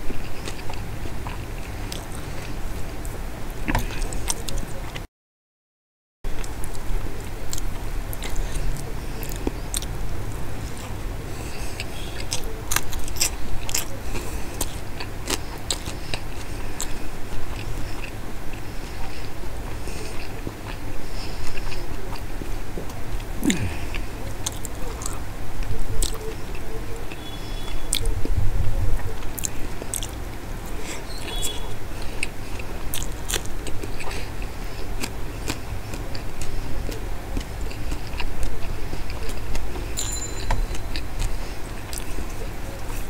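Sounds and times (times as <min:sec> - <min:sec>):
close chewing and wet mouth sounds: 0:00.0 - 0:05.0, 0:06.3 - 0:43.0.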